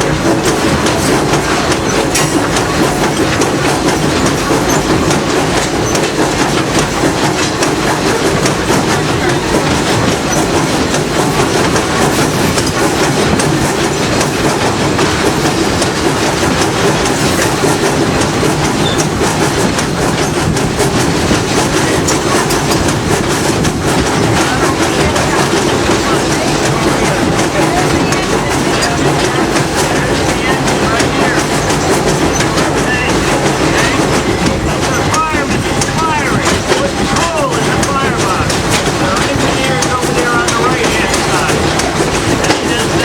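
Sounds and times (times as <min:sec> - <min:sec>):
train wheels rumbling on track: 0:00.0 - 0:43.0
wheels clacking over rail joints: 0:00.0 - 0:43.0.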